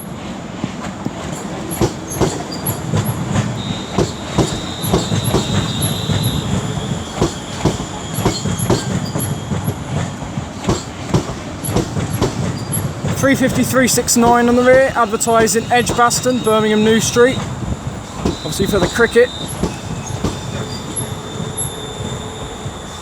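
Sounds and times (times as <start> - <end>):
train wheels clacking over rail joints: 0.6 - 23.0
high wheel squeal: 1.1 - 23.0.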